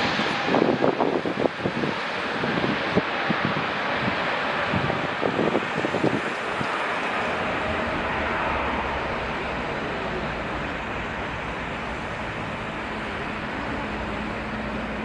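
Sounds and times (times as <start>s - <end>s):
jet engines during takeoff: 0.0s - 15.0s.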